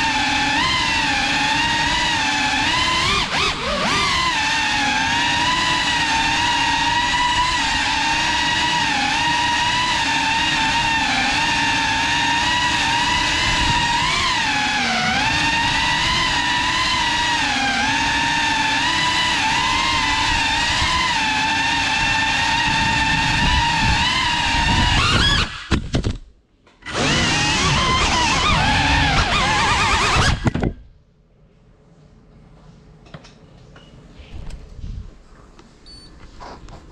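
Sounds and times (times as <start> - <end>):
drone motors high whine: 0.0 - 25.7, 26.8 - 30.8.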